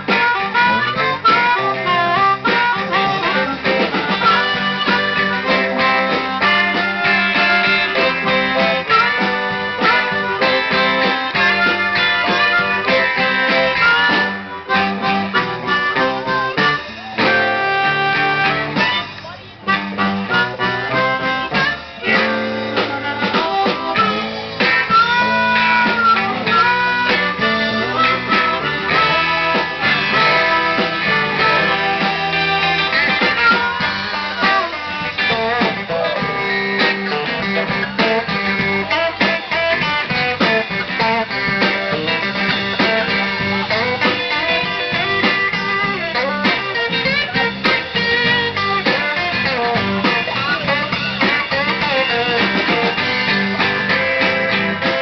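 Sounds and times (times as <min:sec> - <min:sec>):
acoustic guitar: 0:00.0 - 0:55.0
electric guitar: 0:00.0 - 0:55.0
harmonica: 0:00.0 - 0:55.0.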